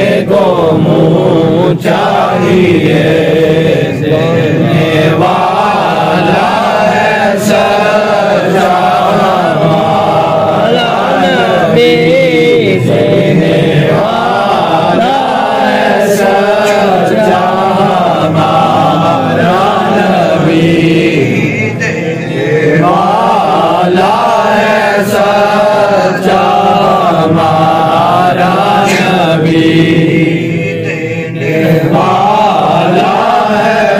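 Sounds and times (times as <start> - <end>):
man chanting: 0.0 - 33.9.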